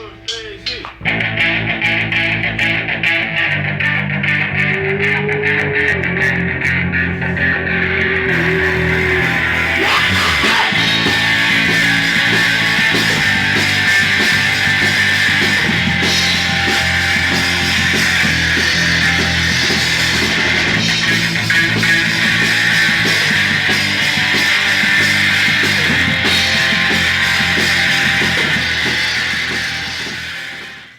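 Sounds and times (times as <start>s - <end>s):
punk rock band playing: 0.0s - 30.9s.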